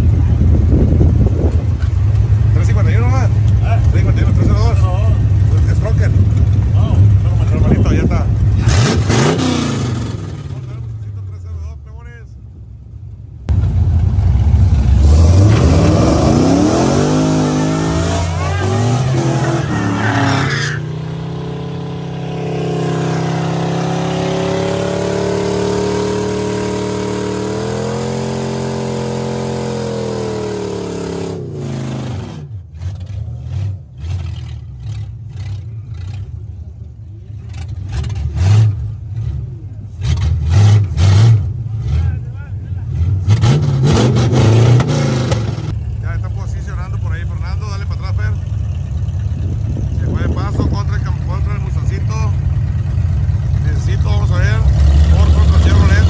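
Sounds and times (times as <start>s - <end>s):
low engine rumbling: 0.0s - 56.0s
racing car engines accelerating: 2.5s - 11.1s, 13.6s - 36.5s, 37.3s - 56.0s.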